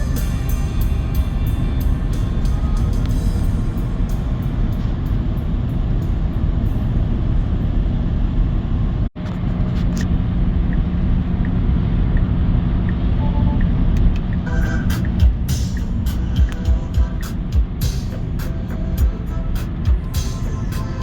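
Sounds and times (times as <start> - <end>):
road and tyre noise in car cabin: 0.0 - 21.0
steady low hum: 0.0 - 21.0.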